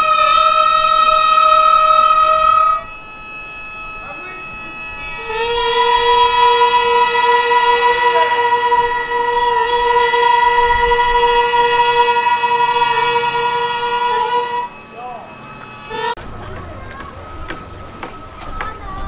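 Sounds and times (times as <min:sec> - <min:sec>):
steady held chord: 0:00.0 - 0:16.2
loud reedy wind note: 0:00.0 - 0:16.4.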